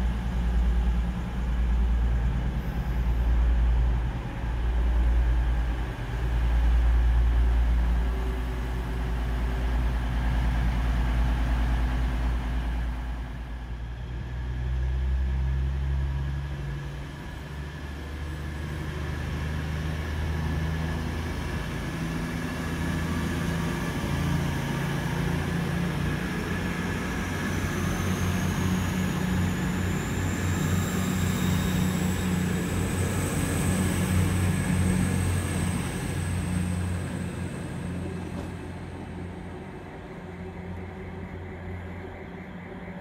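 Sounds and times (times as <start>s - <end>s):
diesel train engine: 0.0s - 43.0s.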